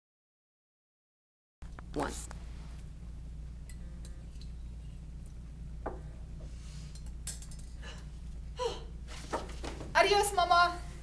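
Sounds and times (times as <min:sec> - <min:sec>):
low electrical hum: 0:01.6 - 0:11.0.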